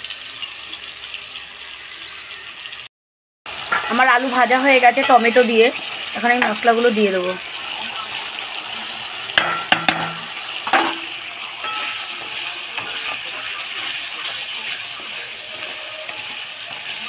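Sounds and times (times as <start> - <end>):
food sizzling in hot oil: 0.0 - 2.9, 3.5 - 17.0.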